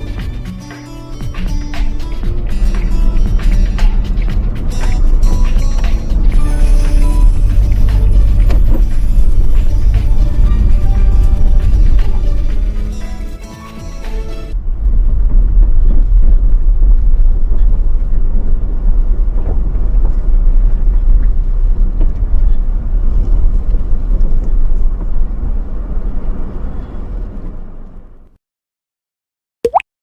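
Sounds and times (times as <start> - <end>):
car driving rumble: 0.0 - 28.3.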